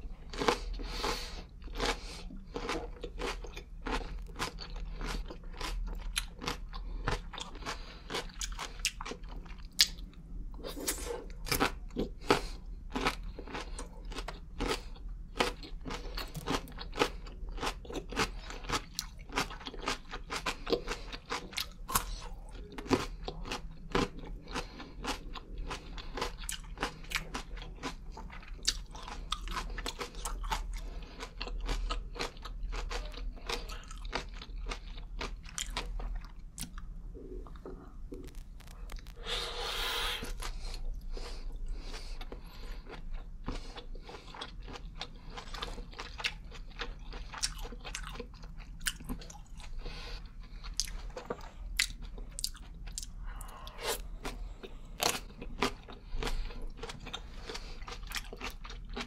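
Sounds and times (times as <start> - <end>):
crunchy chewing of carrot: 0.2 - 59.0.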